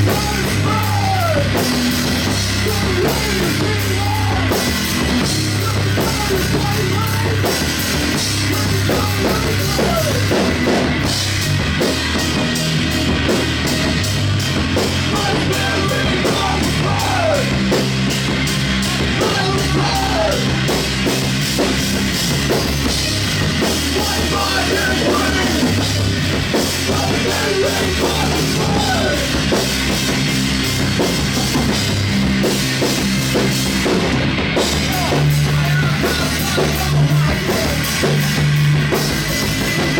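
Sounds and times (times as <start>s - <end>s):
distorted electric guitar: 0.0s - 39.9s
pounding drum kit: 0.0s - 39.9s.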